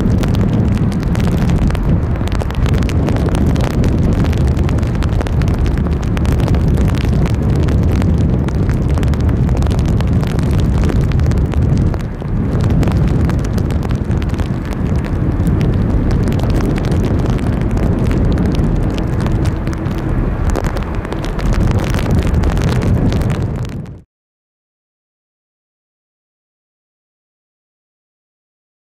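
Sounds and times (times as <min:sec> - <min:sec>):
jet engines rumbling: 0:00.0 - 0:24.0
raindrops clicking: 0:00.0 - 0:24.0
wind on microphone: 0:00.0 - 0:24.1.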